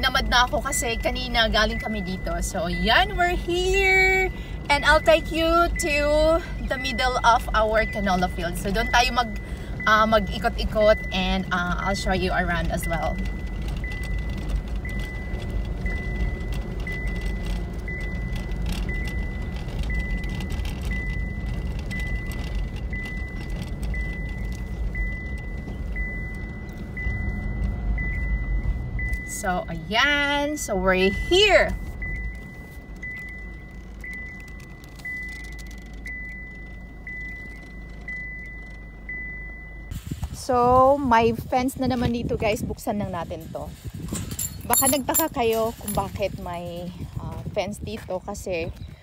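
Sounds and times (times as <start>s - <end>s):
car warning chime beeping: 0.0s - 40.0s, 44.4s - 47.6s
vehicle rumble on dirt track: 0.0s - 49.0s.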